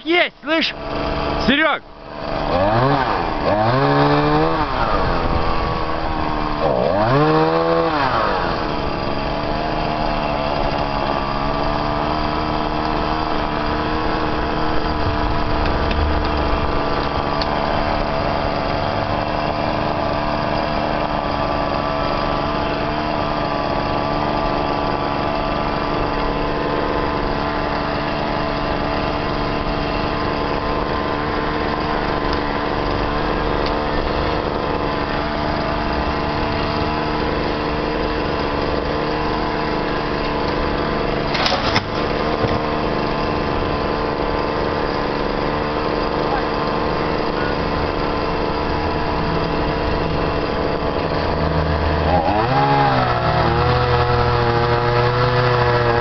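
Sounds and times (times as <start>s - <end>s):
chainsaw engine revving: 0.1s - 56.0s.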